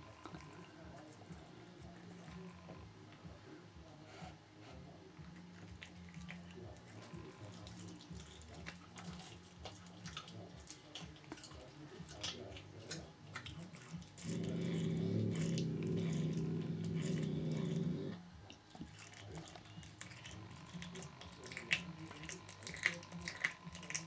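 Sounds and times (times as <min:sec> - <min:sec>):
cat chewing and tearing: 0:04.6 - 0:24.0.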